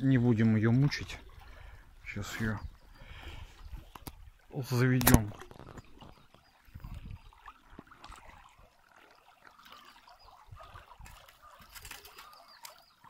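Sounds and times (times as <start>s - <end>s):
river water trickling: 0.0s - 13.0s.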